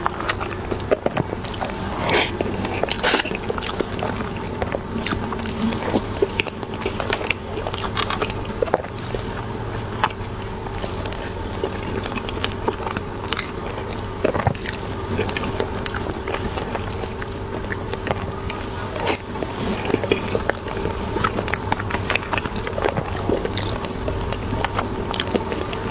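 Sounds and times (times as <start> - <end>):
biting and chewing bread: 0.0 - 25.9
low steady hum: 0.0 - 25.9.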